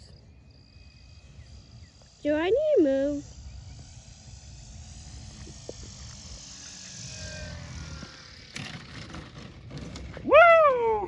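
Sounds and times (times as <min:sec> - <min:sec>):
model plane motor and propeller whine: 0:00.0 - 0:11.0.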